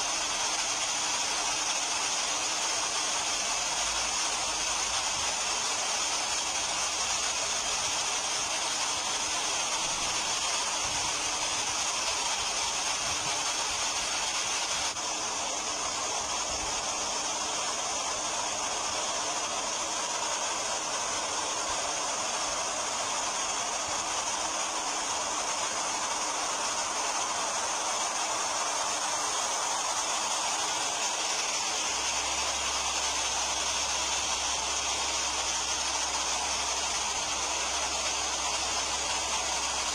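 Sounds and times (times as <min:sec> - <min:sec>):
river water rushing over rapids: 0:00.0 - 0:39.9.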